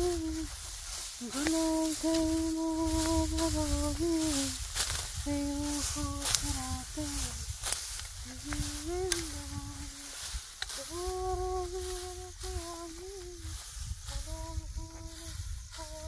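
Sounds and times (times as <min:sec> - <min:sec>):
person humming a slow tune: 0:00.0 - 0:16.0.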